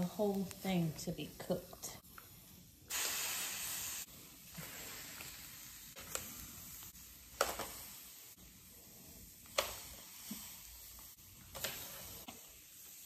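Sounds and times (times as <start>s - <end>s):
food sizzling on griddle: 2.0s - 13.0s.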